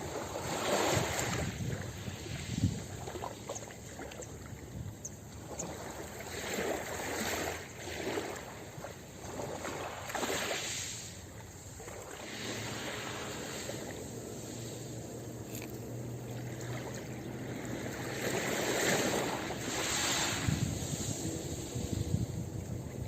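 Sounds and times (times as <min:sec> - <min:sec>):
ocean waves breaking on beach: 0:00.0 - 0:23.0.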